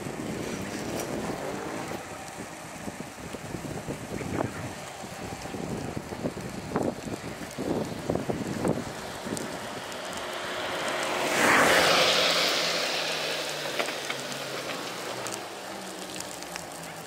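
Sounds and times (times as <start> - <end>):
car passing by: 0.0 - 4.1, 4.7 - 17.0.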